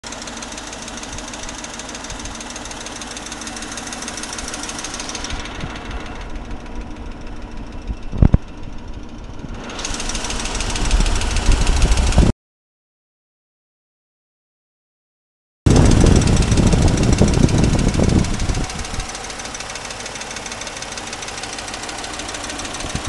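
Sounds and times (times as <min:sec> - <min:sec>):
engine running: 0:00.0 - 0:12.3, 0:15.7 - 0:23.0.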